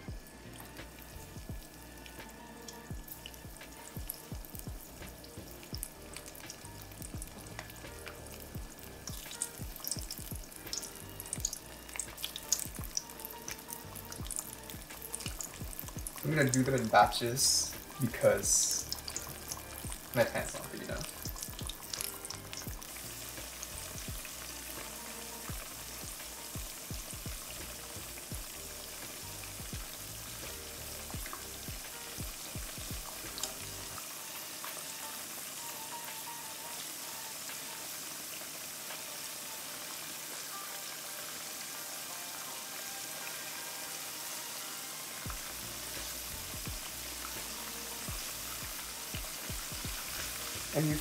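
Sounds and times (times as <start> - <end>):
oil popping and crackling: 0.0 - 40.6, 45.1 - 51.0
patties frying in hot oil: 0.0 - 51.0.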